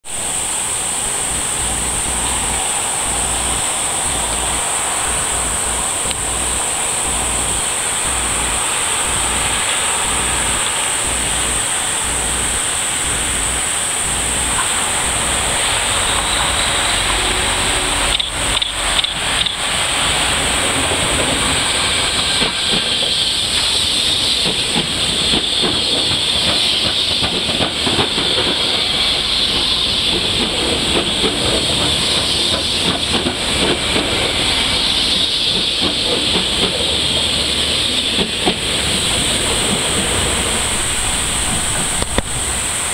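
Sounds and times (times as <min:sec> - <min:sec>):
electric train passing: 0:00.0 - 0:42.9
steady high hiss: 0:00.0 - 0:42.9
train wheel clicks: 0:00.1 - 0:42.9.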